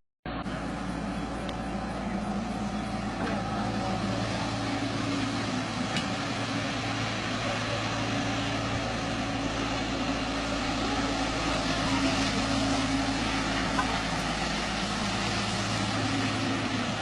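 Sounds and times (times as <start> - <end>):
heavy vehicle engine running: 0.3 - 17.0.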